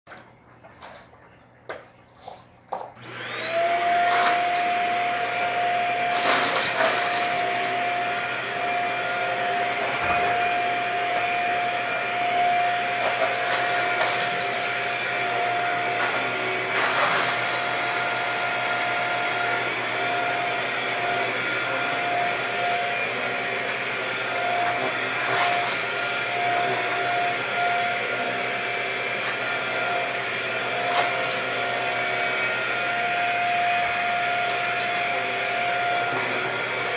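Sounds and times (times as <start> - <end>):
vacuum cleaner motor whining: 0.1 - 36.9.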